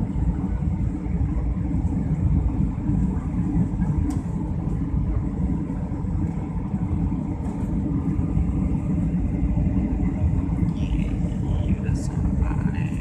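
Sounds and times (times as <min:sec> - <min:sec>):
jet engine rumble in cabin: 0:00.0 - 0:13.0.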